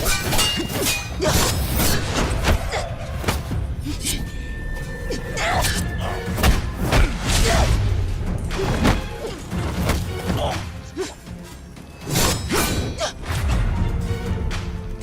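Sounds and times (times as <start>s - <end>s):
dramatic background score: 0.0s - 15.0s.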